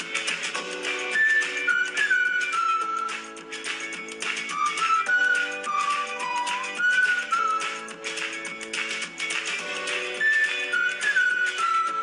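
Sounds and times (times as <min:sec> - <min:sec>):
instrumental music with whistle-like melody: 0:00.0 - 0:12.0.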